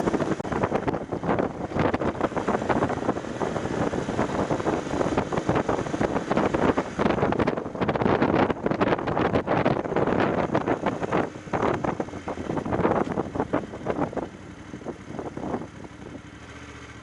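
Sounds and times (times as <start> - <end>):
wind buffeting microphone: 0.0 - 16.3.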